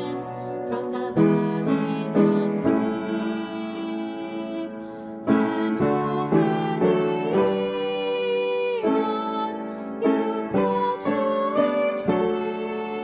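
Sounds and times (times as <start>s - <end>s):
slow hymn music: 0.0s - 13.0s.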